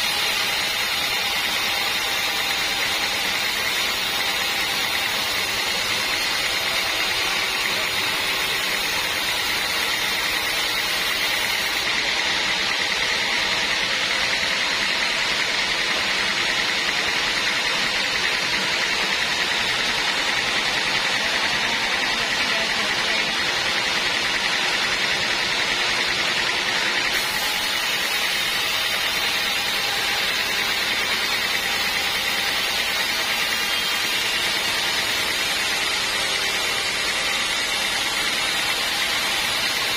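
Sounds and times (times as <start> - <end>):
band saw whining through log: 0.0 - 39.9.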